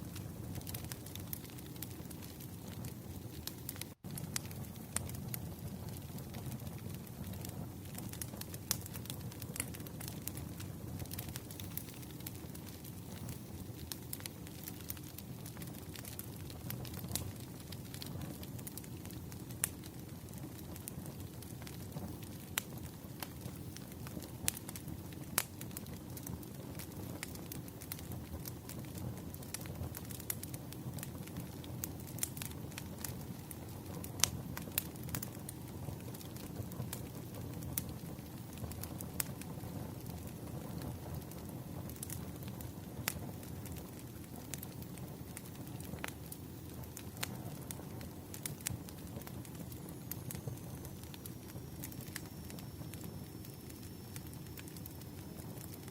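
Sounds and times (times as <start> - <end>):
burning logs crackling and popping: 0.0 - 55.9
low rumble of flames: 0.0 - 55.9.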